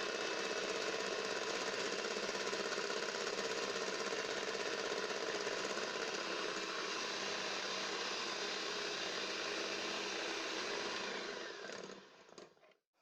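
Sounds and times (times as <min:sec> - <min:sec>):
electric mixer beating batter: 0:00.0 - 0:12.6.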